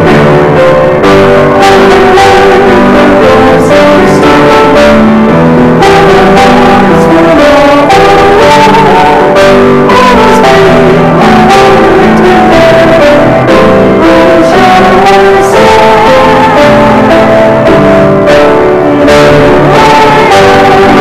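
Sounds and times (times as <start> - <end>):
group singing a hymn: 0.0 - 21.0
piano accompaniment: 0.0 - 21.0.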